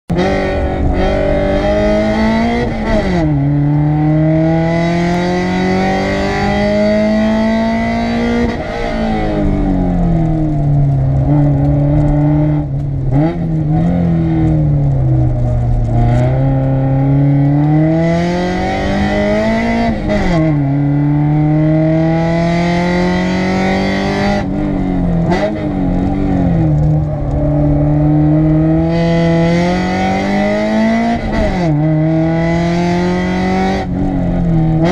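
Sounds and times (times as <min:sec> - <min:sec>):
car engine revving under throttle: 0:00.1 - 0:34.9.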